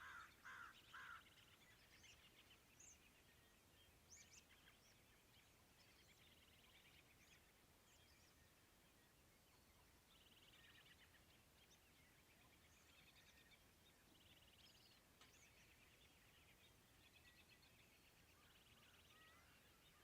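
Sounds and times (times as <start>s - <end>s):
small birds trilling: 0.0s - 20.0s.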